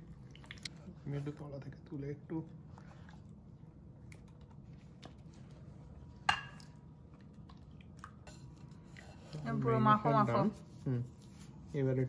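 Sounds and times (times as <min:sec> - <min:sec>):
wet squishes of mixing: 0:00.0 - 0:12.0.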